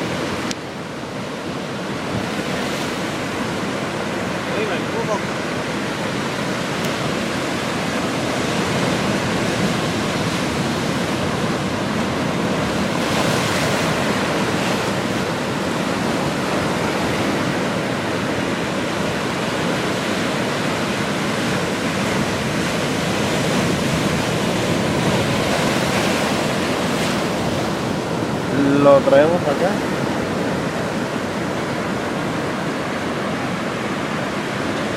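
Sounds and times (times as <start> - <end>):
ocean surf rushing: 0.0 - 34.9.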